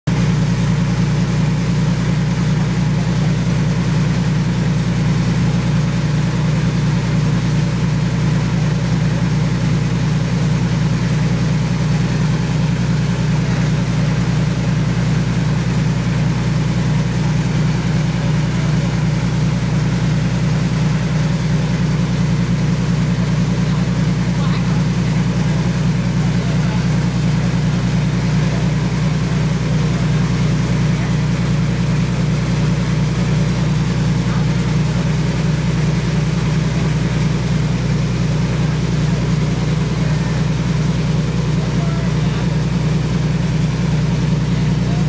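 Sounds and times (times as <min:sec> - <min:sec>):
truck engine idling: 0:00.0 - 0:45.0.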